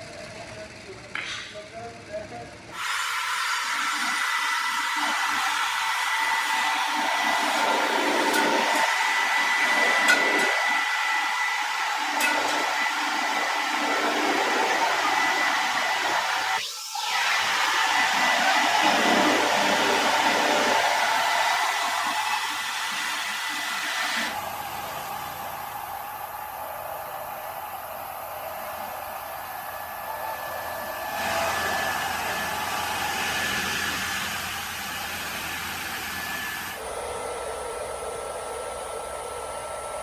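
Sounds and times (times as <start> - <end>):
machine hiss with high whine: 2.7 - 40.0.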